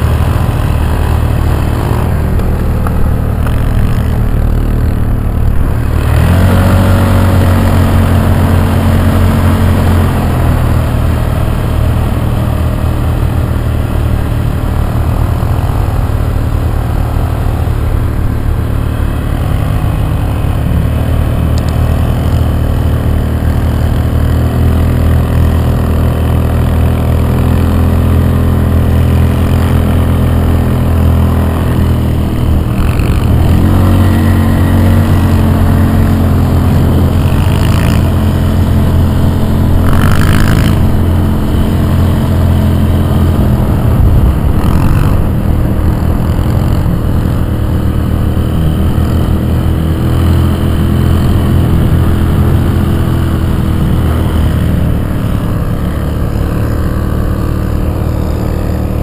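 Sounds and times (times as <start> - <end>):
single-cylinder engine running: 0.0 - 59.0.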